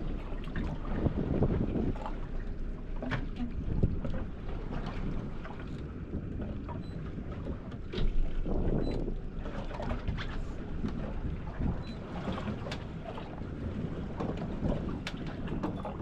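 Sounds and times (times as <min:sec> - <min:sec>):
boat engine low rumble: 0:00.0 - 0:16.0
wind buffeting microphone: 0:00.0 - 0:16.0.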